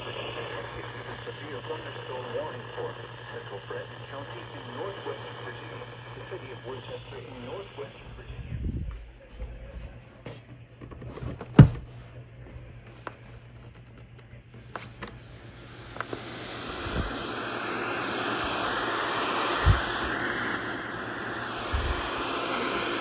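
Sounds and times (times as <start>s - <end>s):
radio hiss: 0.0s - 13.4s, 14.3s - 23.0s
radio static crackle and pops: 0.0s - 23.0s.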